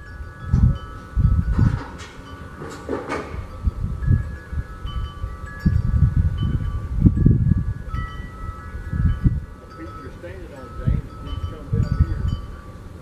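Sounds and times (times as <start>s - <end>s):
low rumbles: 0.0s - 13.0s
wind chimes ringing: 0.0s - 13.0s.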